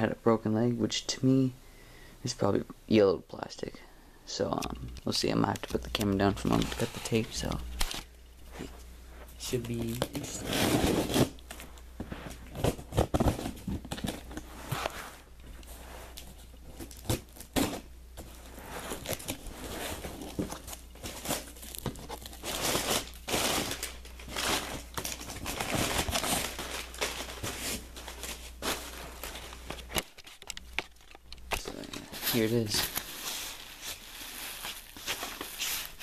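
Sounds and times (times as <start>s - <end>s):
cardboard scraping and rustling: 5.6s - 36.0s.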